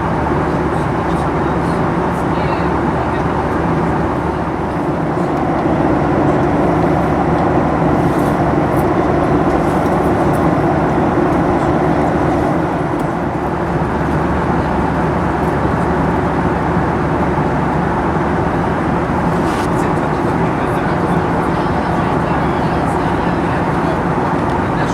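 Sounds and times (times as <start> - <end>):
jet engine cabin drone: 0.0 - 24.9
rushing airflow: 1.6 - 24.8.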